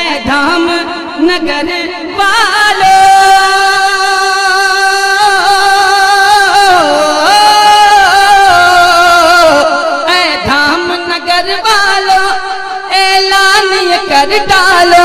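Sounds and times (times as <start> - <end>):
man singing melismatic passage: 0.0 - 15.0.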